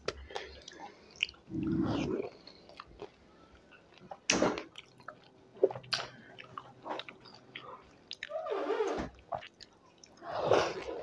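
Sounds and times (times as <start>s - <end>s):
chewing: 0.1s - 3.2s, 3.8s - 8.4s, 9.1s - 11.0s.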